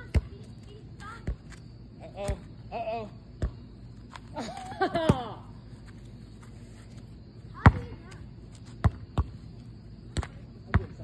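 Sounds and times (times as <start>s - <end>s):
basketball bouncing on asphalt: 0.0s - 2.7s, 3.3s - 6.5s, 7.2s - 11.0s.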